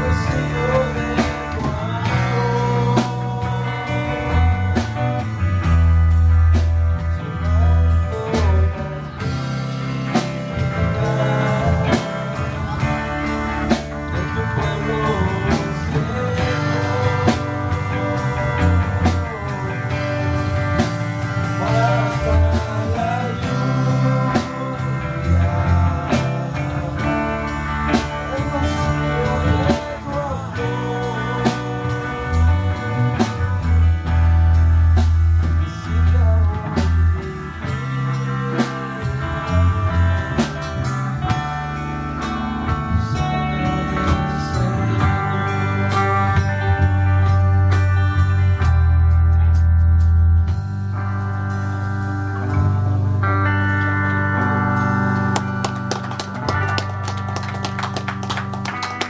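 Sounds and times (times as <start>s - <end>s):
bass line: 0.0s - 59.0s
drum kit steady beat: 0.0s - 59.0s
electric guitars: 0.0s - 59.0s.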